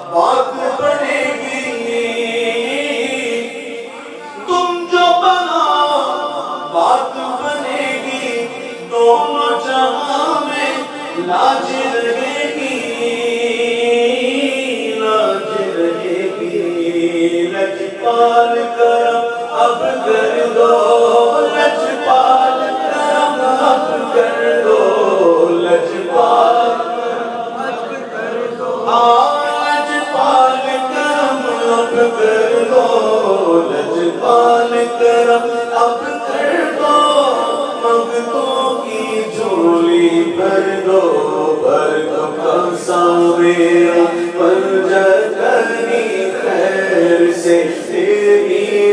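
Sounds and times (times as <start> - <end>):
man singing into a microphone: 0.0 - 48.9.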